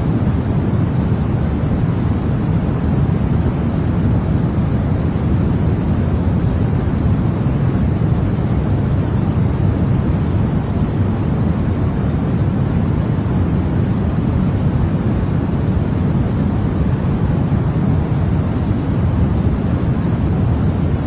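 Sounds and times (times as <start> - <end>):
low white noise hiss: 0.0 - 21.0.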